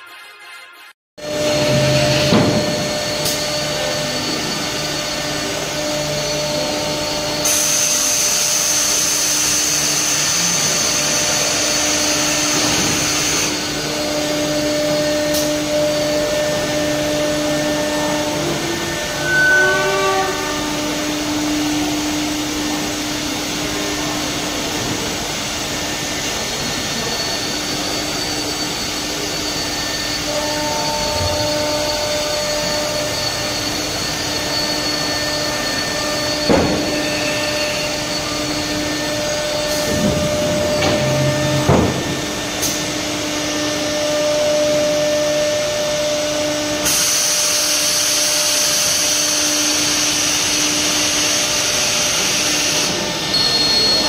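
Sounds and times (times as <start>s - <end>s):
milling machine hissing and humming: 1.2s - 54.0s.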